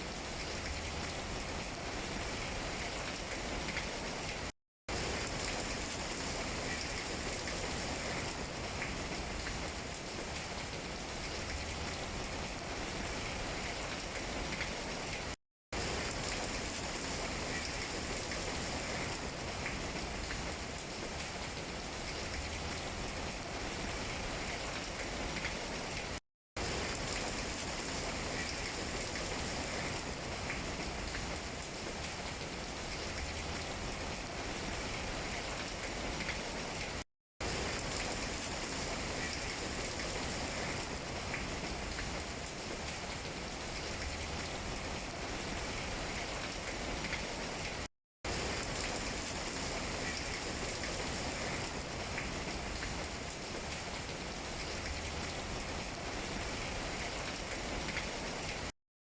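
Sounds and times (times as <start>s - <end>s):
rain pattering on leaves: 0.0s - 58.7s.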